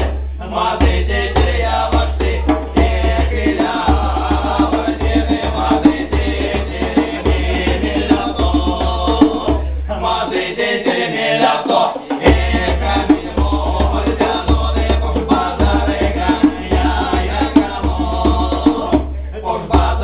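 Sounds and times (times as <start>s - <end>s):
men singing folk song: 0.0s - 20.0s
wooden percussion beat: 0.0s - 20.0s.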